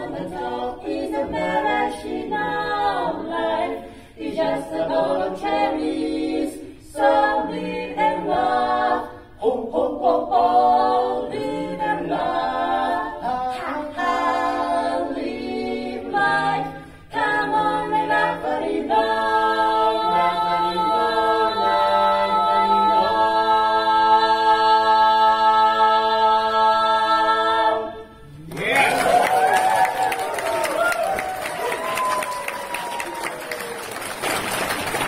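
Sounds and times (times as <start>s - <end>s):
barbershop quartet singing: 0.0s - 28.7s.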